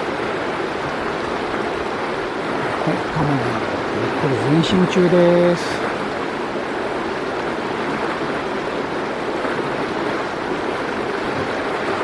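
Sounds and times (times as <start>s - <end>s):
water rushing along a channel: 0.0s - 12.0s.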